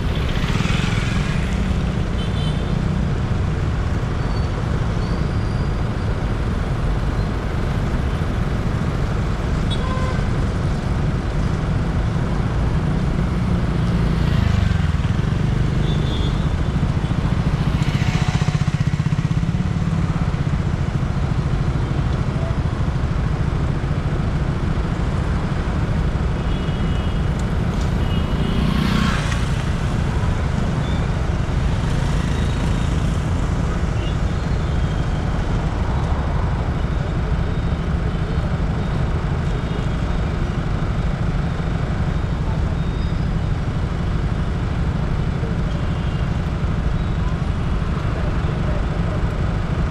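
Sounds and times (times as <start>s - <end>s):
low rumble of traffic: 0.0s - 49.9s.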